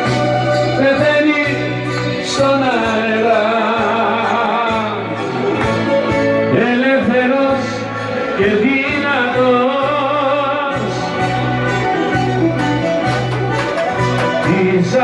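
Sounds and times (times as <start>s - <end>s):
man singing into microphone: 0.0s - 11.8s, 14.3s - 15.0s
amplified backing music: 0.0s - 15.0s
bass line: 0.0s - 15.0s.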